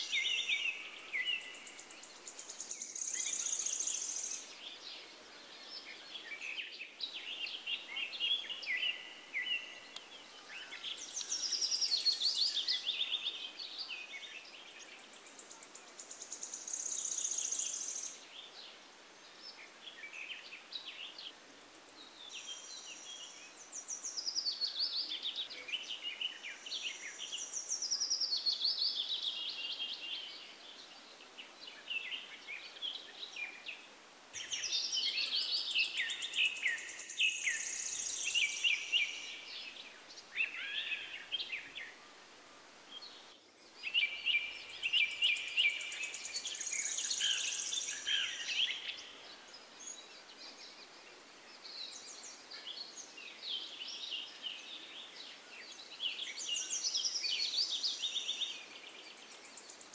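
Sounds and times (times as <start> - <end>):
birds singing: 0.0 - 59.9
faint background hiss: 0.0 - 59.9.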